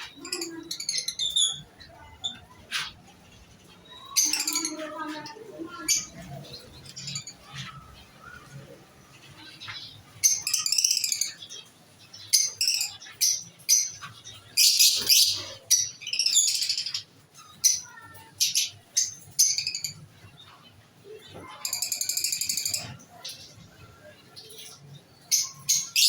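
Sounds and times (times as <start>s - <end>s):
cage birds chirping: 0.0s - 26.0s.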